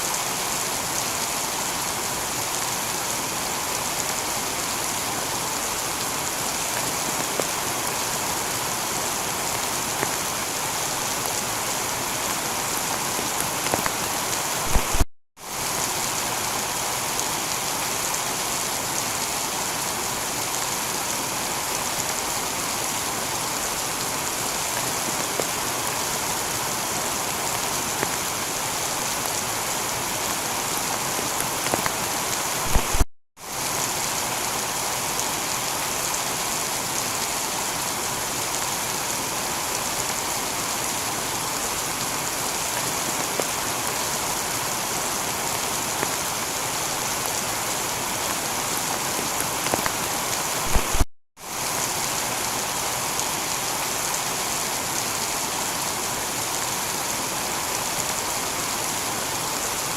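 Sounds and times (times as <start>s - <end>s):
heavy rain on a tiled roof: 0.0s - 59.9s.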